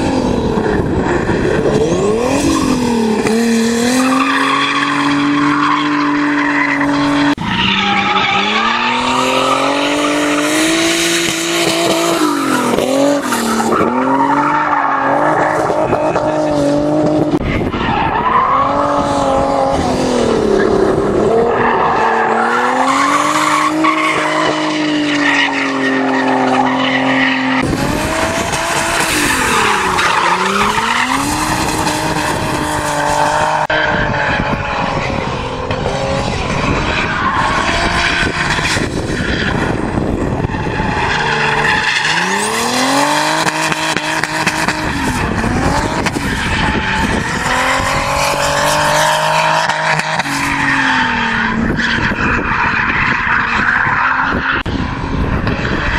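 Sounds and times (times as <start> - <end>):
car engine revving: 0.0 - 55.9
tyre squeal and skidding: 0.6 - 16.8, 17.4 - 55.9.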